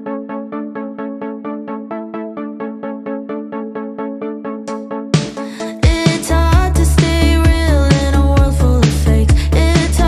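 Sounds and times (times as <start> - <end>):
electronic music with repeated chords: 0.0 - 10.0.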